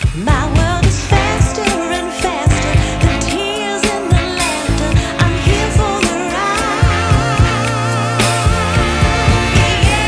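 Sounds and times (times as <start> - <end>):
pop song with singer: 0.0 - 10.0.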